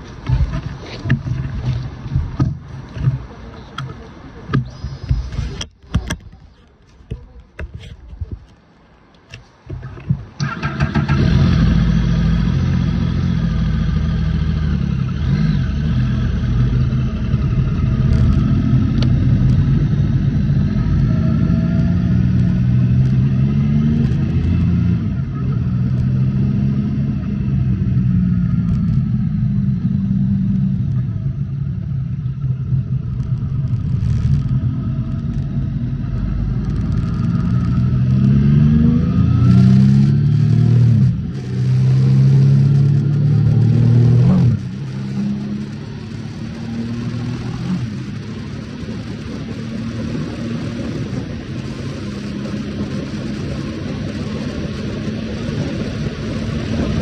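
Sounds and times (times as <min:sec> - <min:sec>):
motorcycle engine accelerating: 0:10.4 - 0:57.0.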